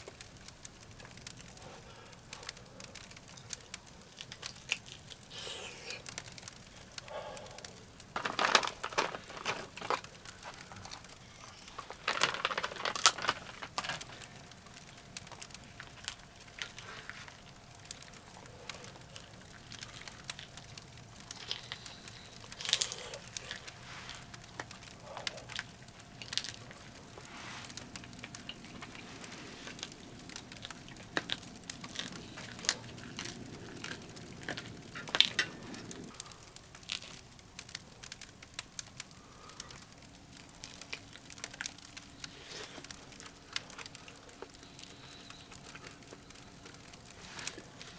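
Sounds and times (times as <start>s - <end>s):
firewood crackling in a stove: 0.0s - 47.9s.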